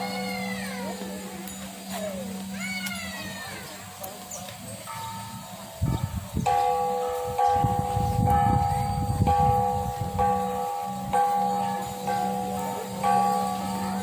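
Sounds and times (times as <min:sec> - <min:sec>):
temple bell ringing: 0:00.0 - 0:14.0.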